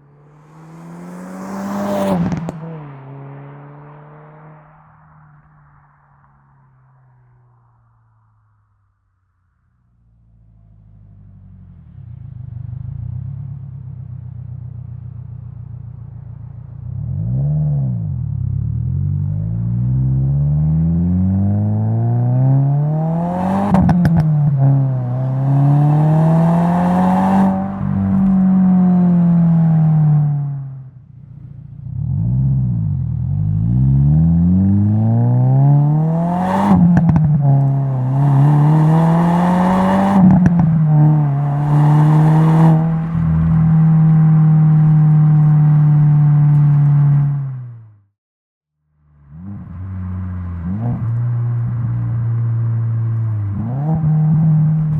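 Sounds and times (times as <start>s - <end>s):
car engine accelerating: 0.0s - 6.4s, 15.9s - 47.9s, 49.0s - 54.9s.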